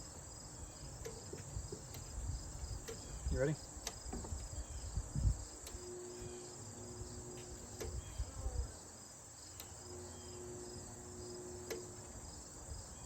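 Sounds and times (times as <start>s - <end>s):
compressor humming faintly: 0.0s - 13.0s.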